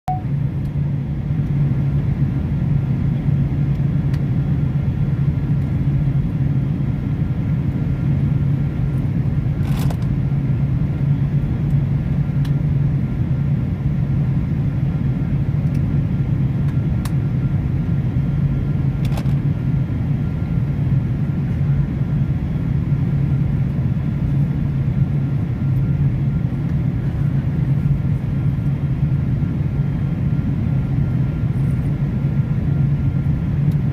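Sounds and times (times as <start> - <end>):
airliner low rumble and drone: 0.1 - 33.9.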